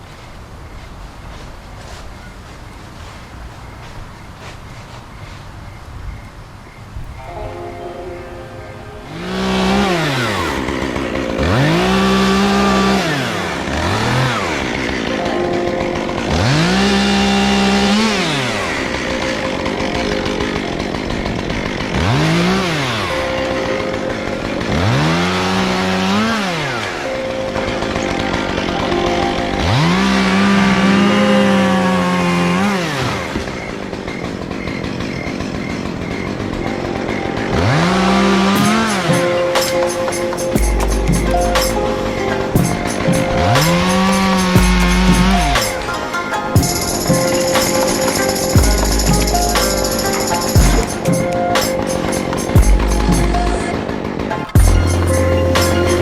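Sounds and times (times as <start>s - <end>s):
chainsaw cutting wood: 9.1s - 56.0s.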